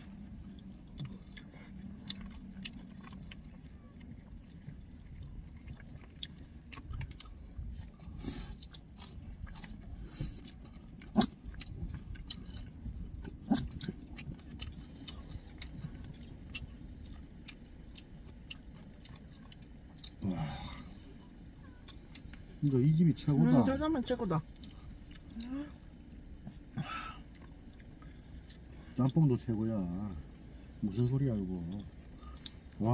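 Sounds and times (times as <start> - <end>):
close-up chewing: 0.0 - 22.8, 23.4 - 29.5, 30.2 - 32.9
low steady rumble: 0.0 - 32.9.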